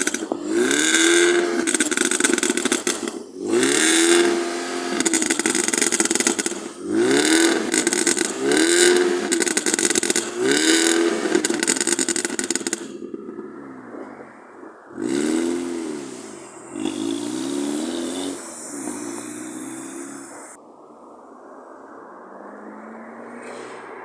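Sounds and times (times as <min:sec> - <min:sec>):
car engine revving: 0:00.0 - 0:20.6
exhaust crackles and pops: 0:00.0 - 0:20.6.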